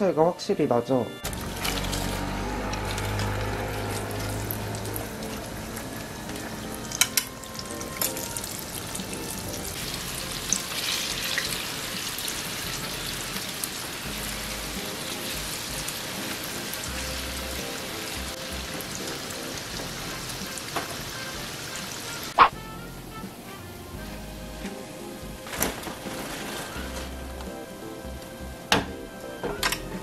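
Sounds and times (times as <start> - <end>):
faint music: 0.0 - 30.0
oil sizzling and crackling: 1.2 - 28.7.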